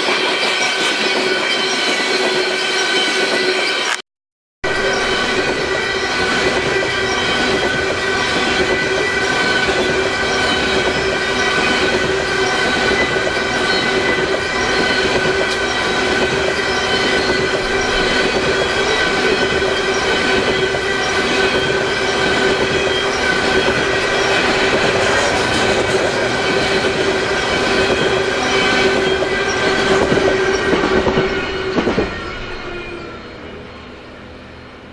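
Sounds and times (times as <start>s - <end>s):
steel wheels rumbling on rail: 4.6s - 34.9s
high-pitched wheel squeal: 4.7s - 34.6s.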